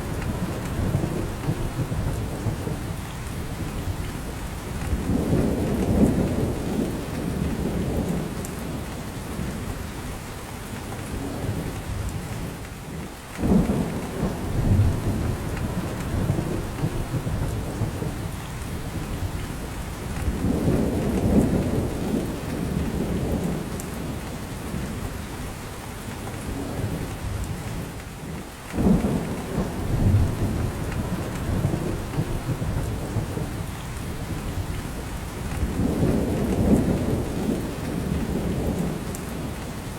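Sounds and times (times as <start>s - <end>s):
rain pattering on branches: 0.0s - 39.9s.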